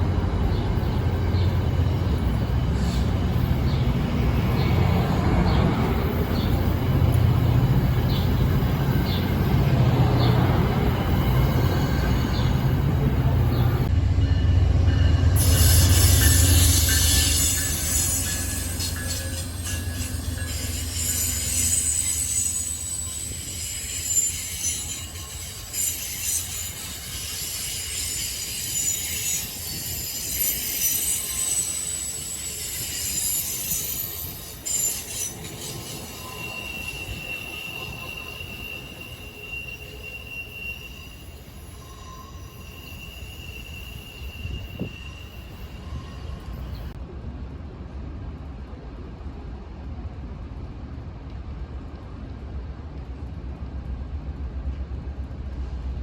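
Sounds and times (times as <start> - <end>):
train wheels squealing on rails: 0.0 - 47.0
low train rumble: 0.0 - 56.0.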